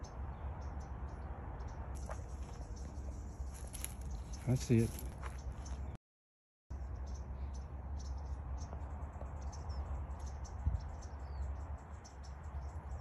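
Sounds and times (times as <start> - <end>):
small birds chirping: 0.0 - 6.0, 6.7 - 13.0.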